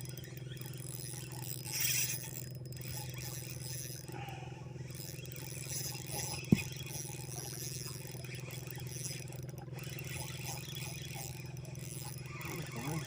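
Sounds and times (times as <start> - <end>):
low pulsing engine hum: 0.0 - 13.0.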